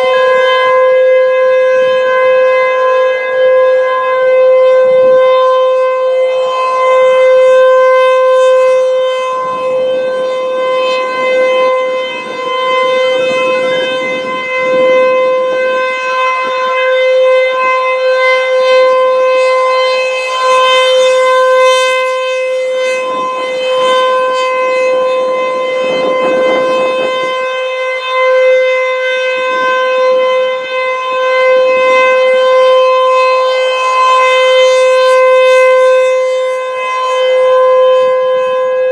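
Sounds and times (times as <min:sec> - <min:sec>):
rotating warning siren steady tone: 0:00.0 - 0:38.9.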